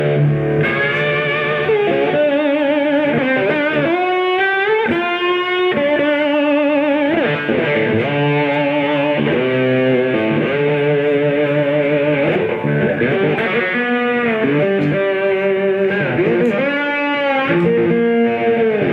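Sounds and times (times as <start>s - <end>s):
bass line on guitar: 0.0s - 18.9s
electric guitar playing slow blues: 0.0s - 18.9s.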